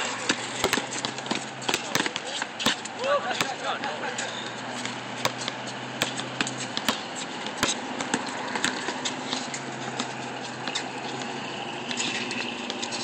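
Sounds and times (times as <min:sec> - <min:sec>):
outdoor noise: 0:00.0 - 0:13.0
basketball bouncing on concrete: 0:00.1 - 0:13.0.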